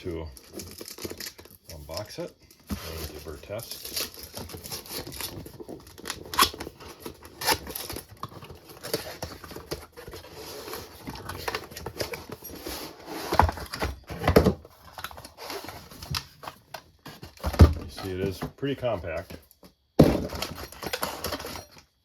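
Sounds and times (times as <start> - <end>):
cardboard packaging clicks and rustles: 0.0 - 22.0.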